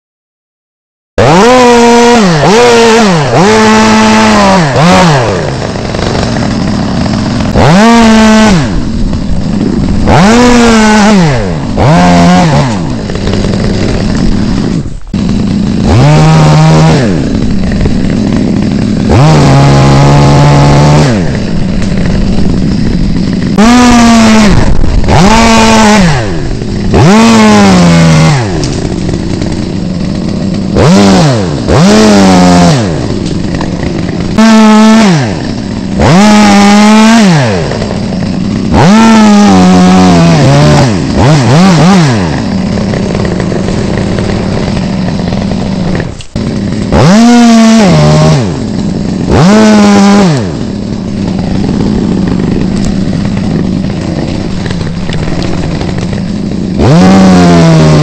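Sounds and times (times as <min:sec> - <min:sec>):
chainsaw revving: 0:01.2 - 0:58.0.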